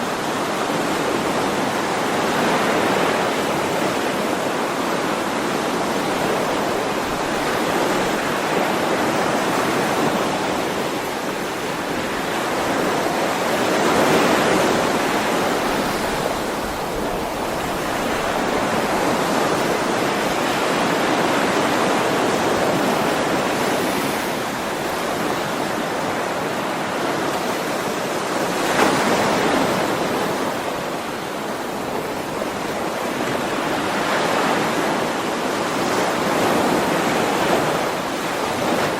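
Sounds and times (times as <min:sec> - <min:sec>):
sea waves washing ashore: 0:00.0 - 0:38.9.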